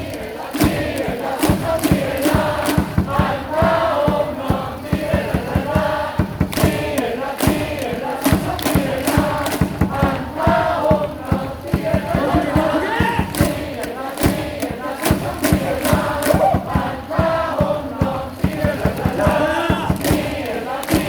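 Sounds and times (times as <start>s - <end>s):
crowd chanting in unison: 0.0s - 21.0s
fast sharp drum strokes: 0.0s - 21.0s
music: 0.0s - 21.0s.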